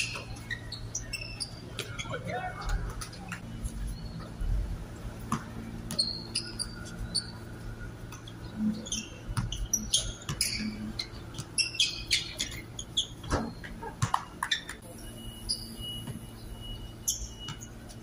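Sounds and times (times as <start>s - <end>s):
basketball shoes squeaking: 0.0s - 18.0s.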